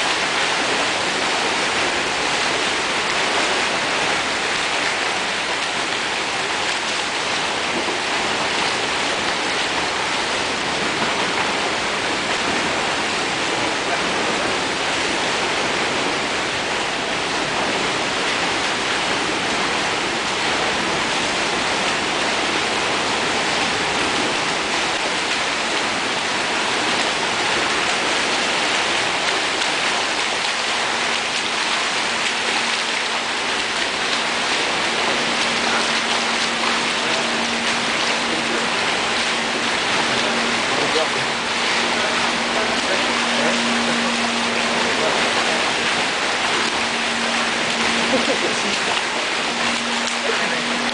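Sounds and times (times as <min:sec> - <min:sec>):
water splashing from swimmers: 0:00.0 - 0:50.9.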